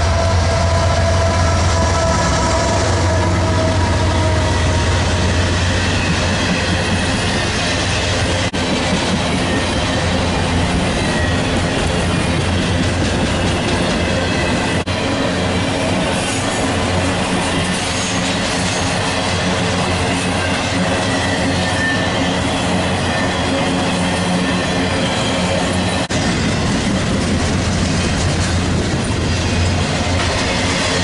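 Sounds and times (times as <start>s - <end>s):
diesel locomotive engines running: 0.0s - 31.0s
steel wheels rolling on rails: 0.0s - 31.0s.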